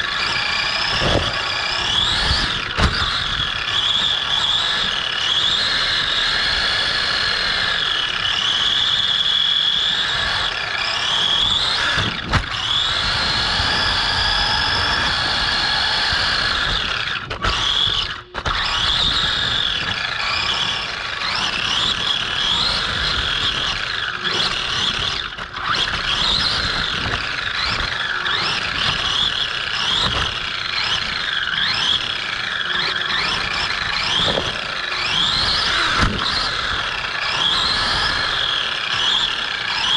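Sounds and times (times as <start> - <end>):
electric motor and gear whine: 0.0 - 39.9.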